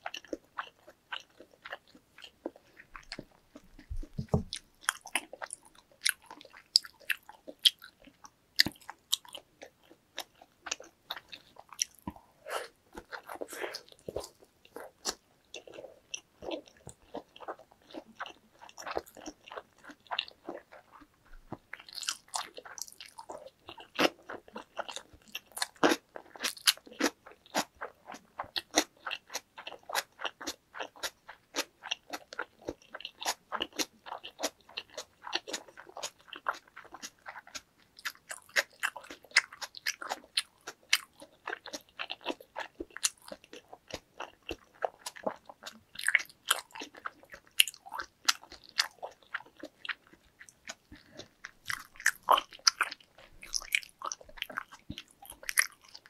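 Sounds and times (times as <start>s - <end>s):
wet chewing clicks and smacks: 0.0s - 12.3s, 12.9s - 56.0s.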